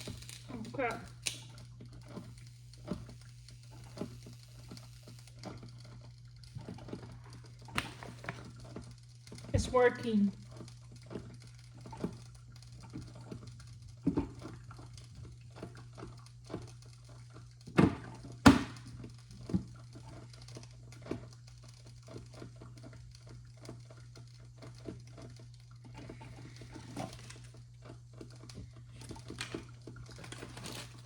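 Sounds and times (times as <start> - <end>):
coffee maker sputtering: 0.0 - 31.0.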